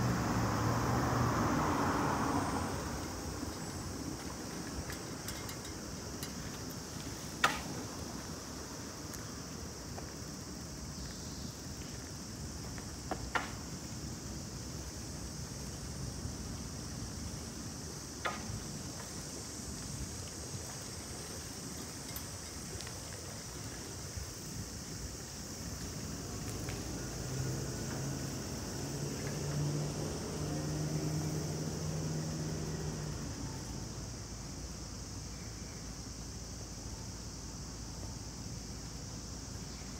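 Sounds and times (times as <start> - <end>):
high-pitched hiss: 2.1 - 39.9.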